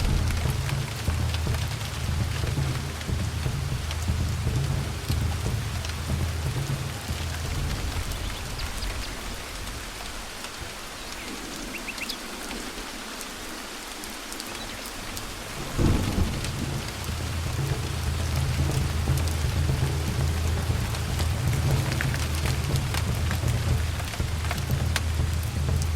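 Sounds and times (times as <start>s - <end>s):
loud thunderclap: 0.0s - 11.1s, 15.2s - 25.9s
thunder rumbling: 0.0s - 13.0s, 14.9s - 25.9s
steady rain: 0.0s - 25.9s.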